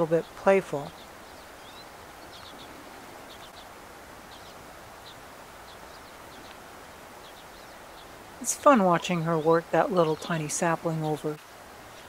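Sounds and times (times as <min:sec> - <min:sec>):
small birds chirping: 0:00.0 - 0:12.0
steady hiss: 0:00.2 - 0:12.0.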